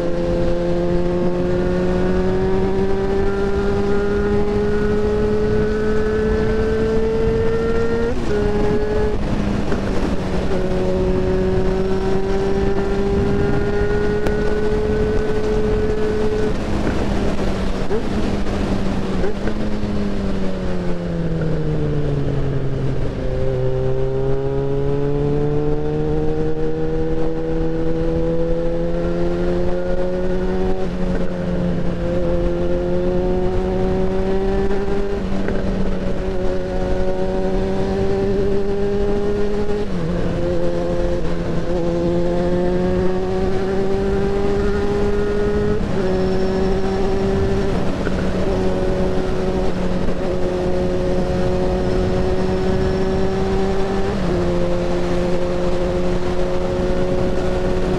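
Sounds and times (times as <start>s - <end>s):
motorcycle engine revving: 0.0s - 57.9s
wind rush: 0.0s - 57.9s.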